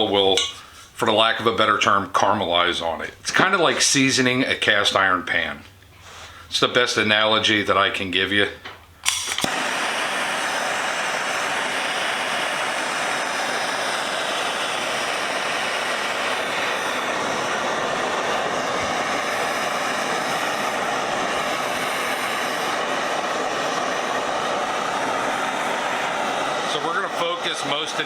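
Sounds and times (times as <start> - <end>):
gas torch hissing: 0.0 - 28.0.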